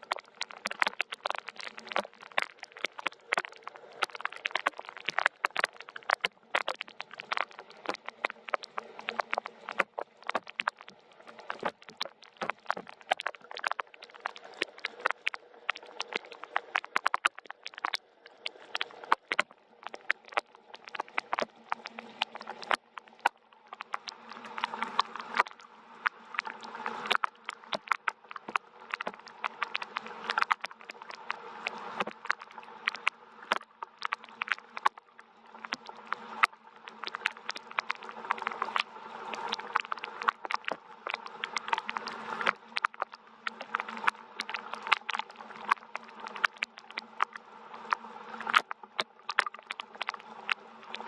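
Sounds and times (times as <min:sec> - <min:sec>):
raindrops ticking on hard surface: 0:00.0 - 0:51.0
soft rain hiss: 0:00.0 - 0:51.0.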